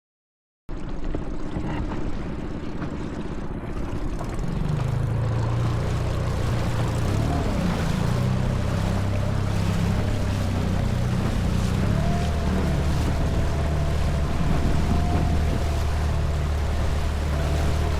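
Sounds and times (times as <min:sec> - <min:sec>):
outboard motor running: 0:00.7 - 0:17.9
rush of wind and water: 0:00.7 - 0:17.9.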